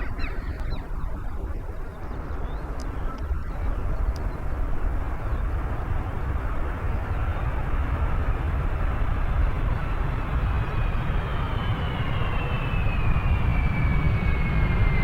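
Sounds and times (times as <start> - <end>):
faint engine whine: 0.0 - 15.0
jet engines rumbling: 0.0 - 15.0.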